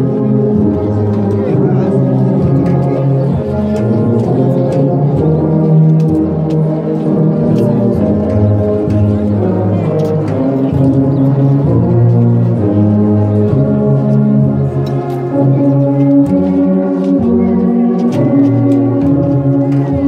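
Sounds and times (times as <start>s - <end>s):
brass band playing slow tune: 0.0s - 20.0s.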